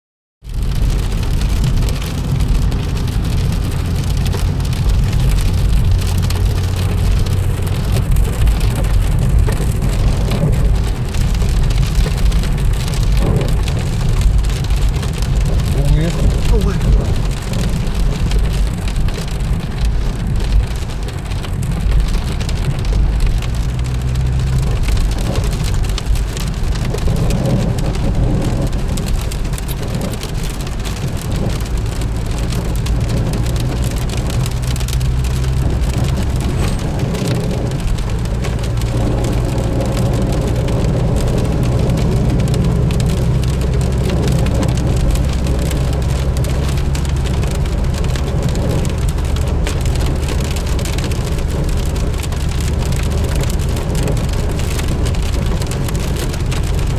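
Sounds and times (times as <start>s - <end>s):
car tyres on wet road: 0.4s - 56.9s
heavy rain on car roof: 0.4s - 56.9s.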